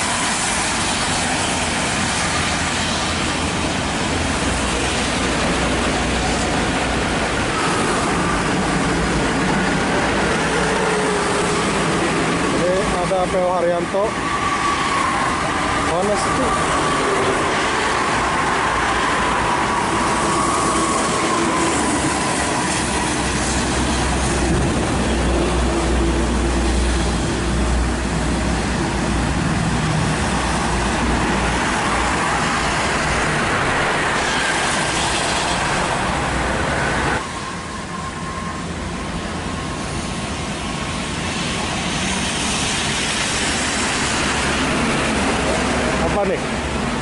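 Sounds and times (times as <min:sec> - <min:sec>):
coach engine rumble: 0:00.0 - 0:47.0
tyres hissing on wet road: 0:00.0 - 0:47.0.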